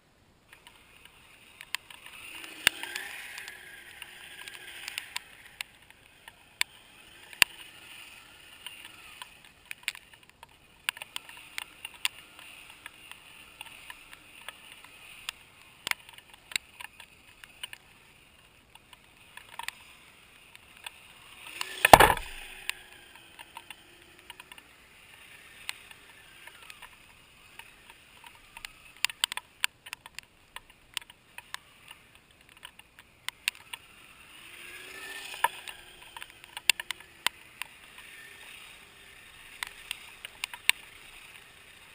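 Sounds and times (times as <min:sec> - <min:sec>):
tracks clicking on ice: 0:00.5 - 0:41.9.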